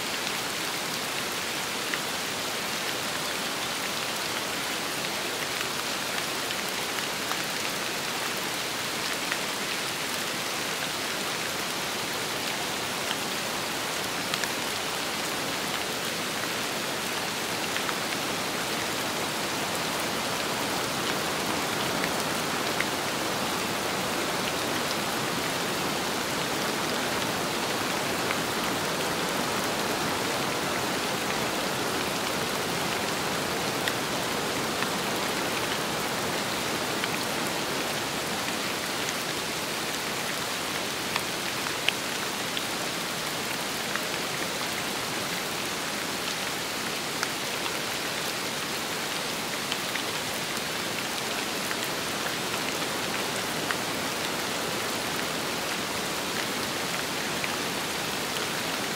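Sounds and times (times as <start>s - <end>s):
steady rain falling: 0.0s - 58.9s
wind: 0.0s - 58.9s.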